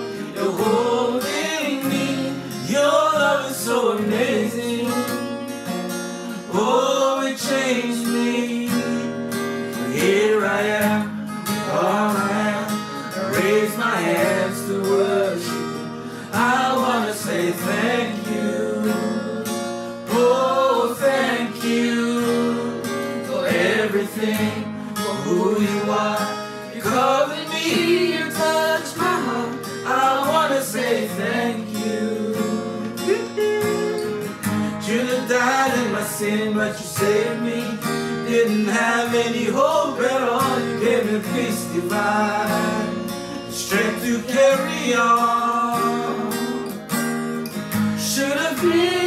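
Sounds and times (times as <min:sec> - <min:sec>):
voices singing gospel song: 0:00.0 - 0:05.2, 0:06.5 - 0:09.1, 0:09.8 - 0:46.8, 0:48.0 - 0:49.0
acoustic guitar strumming: 0:00.0 - 0:49.0.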